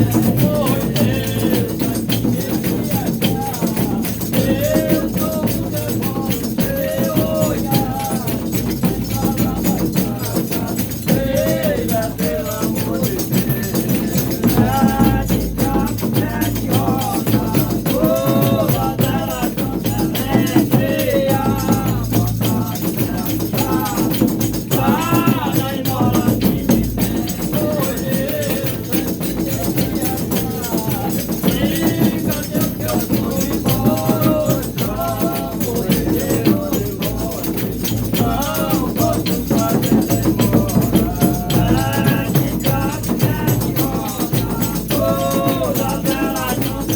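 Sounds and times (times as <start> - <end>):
shakers and tambourine rattling: 0.0 - 46.9
voices singing folk song: 0.0 - 46.9.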